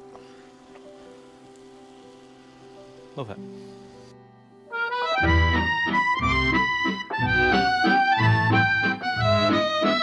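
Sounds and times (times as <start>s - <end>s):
melodic background music: 0.0s - 10.0s.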